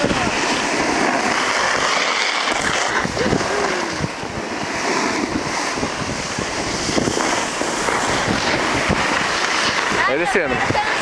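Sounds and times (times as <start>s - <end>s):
snowboard scraping on snow: 0.0s - 11.0s
wind buffeting microphone: 0.0s - 11.0s.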